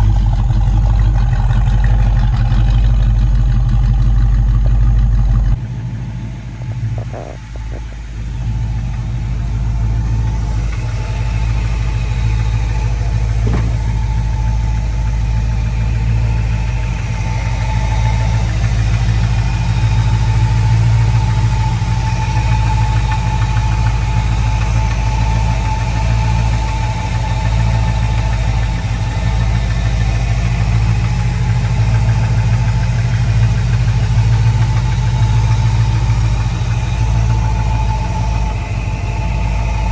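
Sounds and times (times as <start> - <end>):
pickup engine idling: 0.0 - 39.9.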